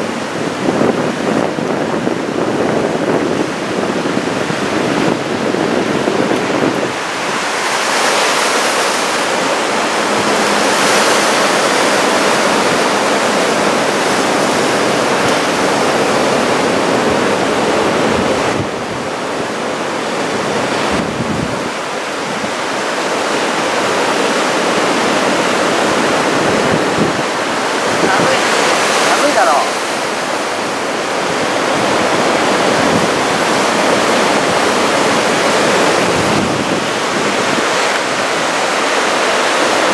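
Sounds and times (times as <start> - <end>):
heavy surf breaking: 0.0 - 39.9
wind buffeting microphone: 0.0 - 39.9.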